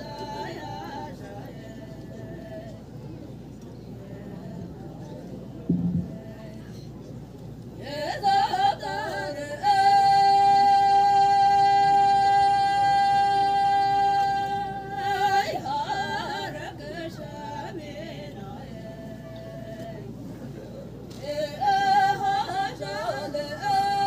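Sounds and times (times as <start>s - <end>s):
women singing unaccompanied: 0.0s - 7.0s, 7.7s - 24.0s.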